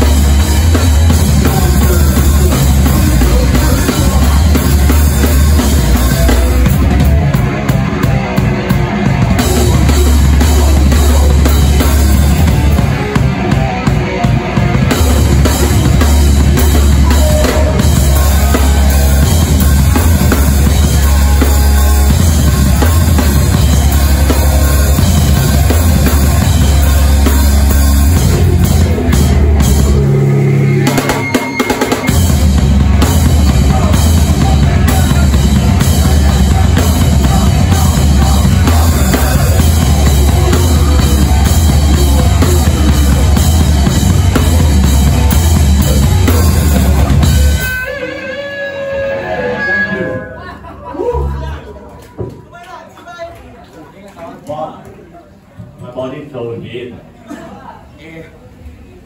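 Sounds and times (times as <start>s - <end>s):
hardcore band playing live: 0.0s - 52.5s.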